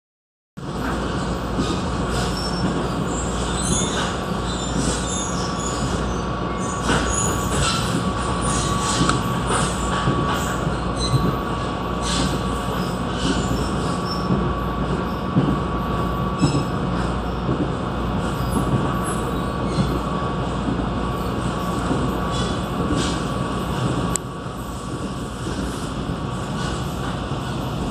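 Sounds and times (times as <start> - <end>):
train wheels rumbling: 0.6 - 27.9.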